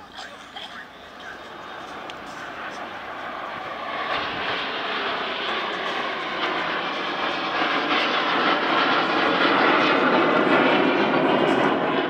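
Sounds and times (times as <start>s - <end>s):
aircraft engine rushing overhead: 0.0s - 12.0s.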